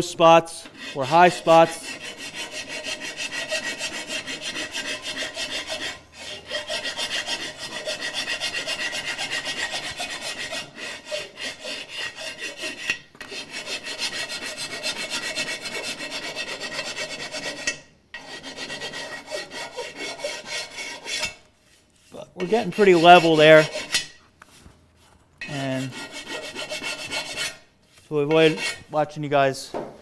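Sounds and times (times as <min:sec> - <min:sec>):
hand file rasping on metal: 0:00.5 - 0:24.2, 0:25.4 - 0:29.0.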